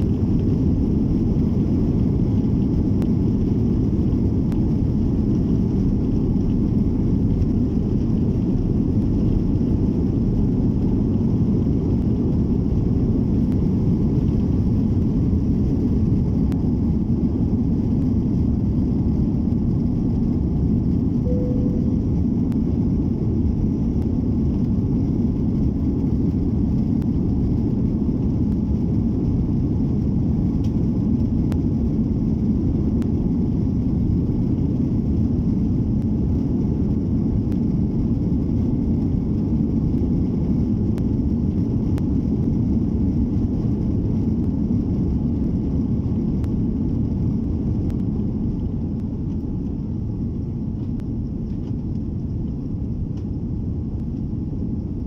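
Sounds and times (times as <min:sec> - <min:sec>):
jet engine rumble inside cabin: 0:00.0 - 0:55.0.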